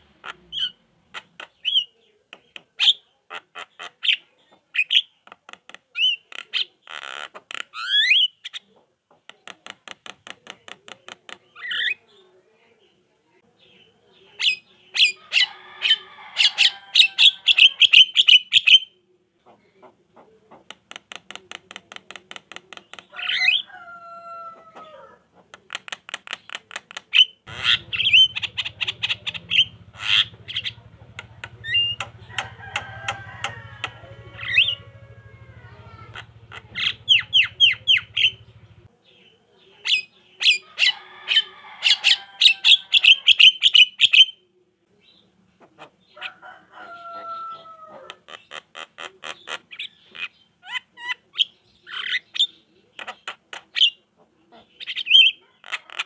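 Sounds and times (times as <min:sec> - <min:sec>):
myna bird chattering: 0:00.0 - 0:56.0.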